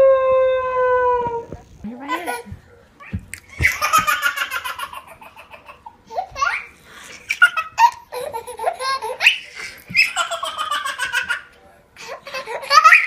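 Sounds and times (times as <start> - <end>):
baby laughing and squealing: 2.1 - 13.0.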